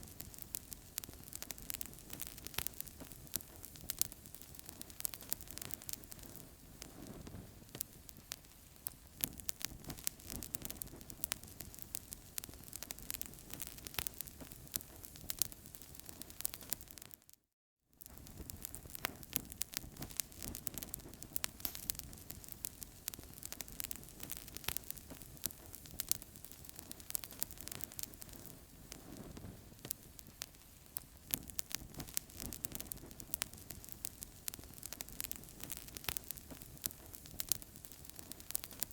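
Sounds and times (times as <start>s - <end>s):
wood fire crackling: 0.0s - 17.3s, 18.0s - 38.9s.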